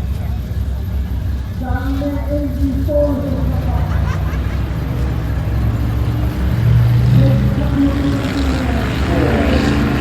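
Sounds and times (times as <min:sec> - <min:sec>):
racing car engines idling: 0:00.0 - 0:10.0.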